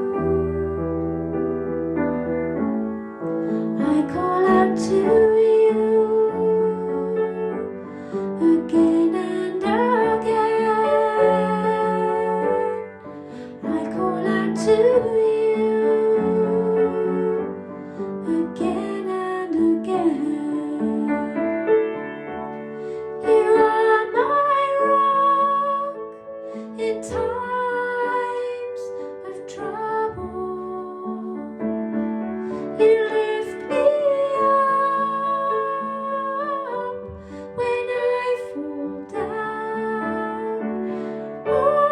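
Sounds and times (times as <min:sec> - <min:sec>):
woman singing: 0:00.0 - 0:01.5, 0:03.5 - 0:21.7, 0:23.2 - 0:41.9
piano accompaniment: 0:00.0 - 0:41.9.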